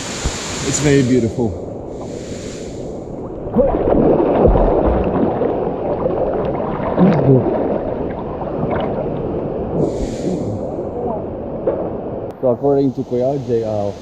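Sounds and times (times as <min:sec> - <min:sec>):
muffled rushing gurgling water: 0:00.0 - 0:14.0.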